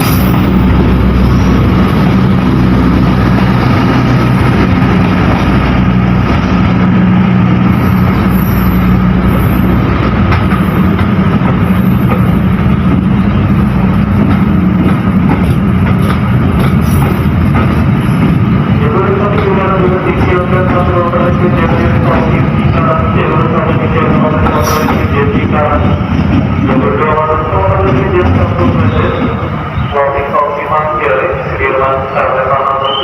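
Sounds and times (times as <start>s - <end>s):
wheels rushing on rails: 0.0s - 31.8s
train passing with low drone: 0.0s - 33.0s.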